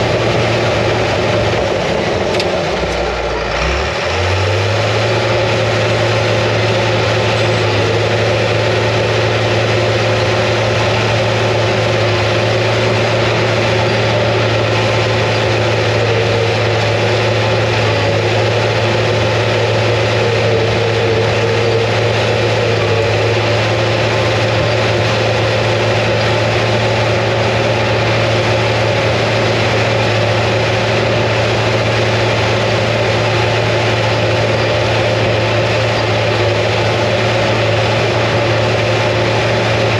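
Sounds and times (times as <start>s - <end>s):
diesel dozer engine running: 0.0s - 39.9s.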